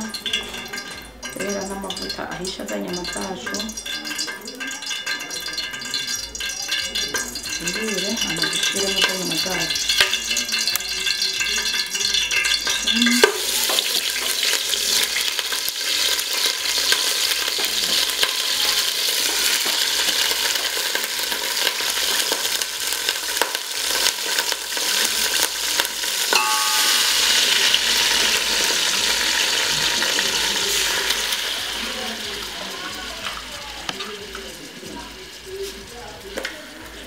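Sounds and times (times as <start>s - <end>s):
meat sizzling in hot oil: 0.0s - 37.0s.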